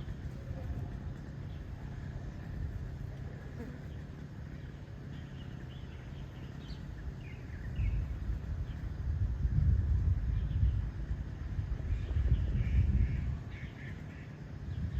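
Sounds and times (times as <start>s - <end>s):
low outdoor rumble: 0.0s - 14.9s.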